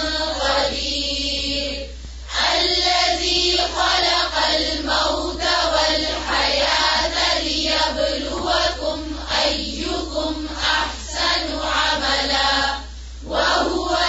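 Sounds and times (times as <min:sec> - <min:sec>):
choir chanting: 0:00.0 - 0:14.0.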